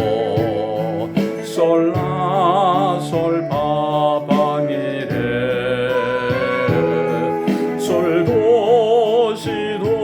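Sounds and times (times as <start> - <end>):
instrumental backing track: 0.0 - 10.0.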